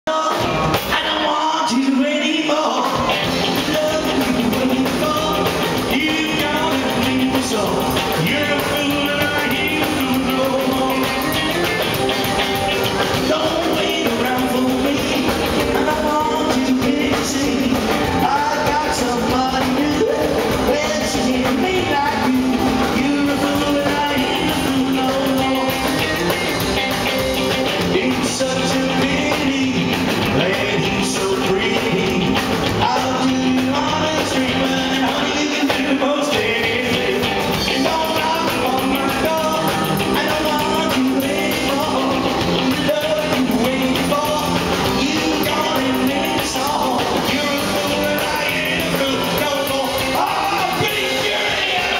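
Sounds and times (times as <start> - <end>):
man singing: 0.0 - 51.9
rockabilly band playing: 0.1 - 51.9.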